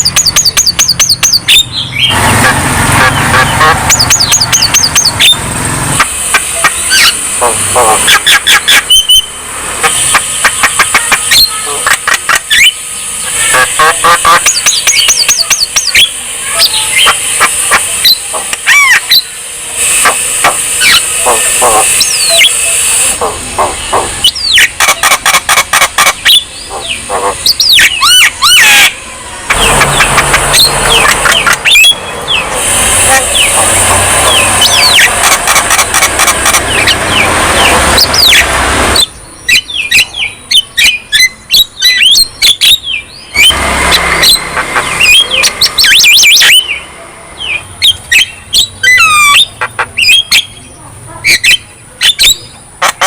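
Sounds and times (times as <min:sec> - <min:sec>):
bird singing varied song: 0:00.0 - 0:02.4, 0:03.0 - 0:53.0.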